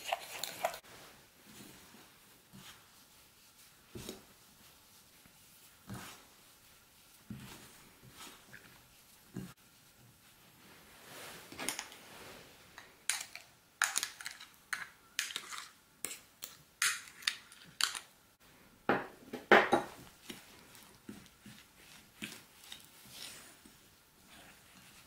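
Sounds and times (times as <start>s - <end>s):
hands working dough in a bowl: 0.0s - 18.2s, 19.4s - 25.0s.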